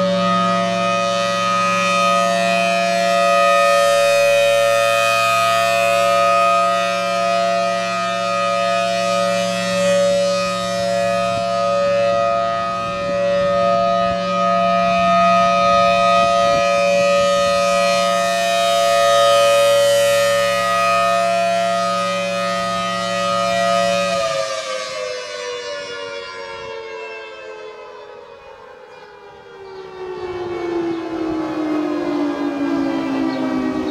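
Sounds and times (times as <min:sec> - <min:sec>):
rotating warning siren: 0:00.0 - 0:33.9.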